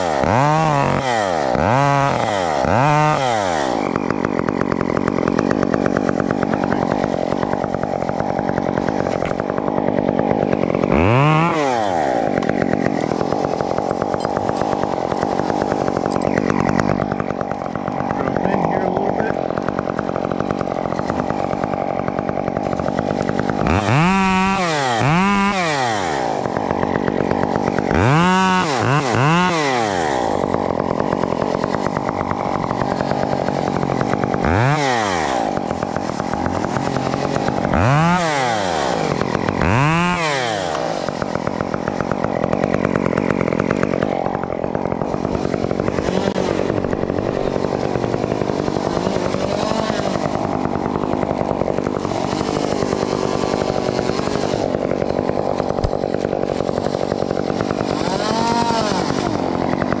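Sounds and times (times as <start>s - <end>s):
chainsaw revving: 0.0s - 60.0s.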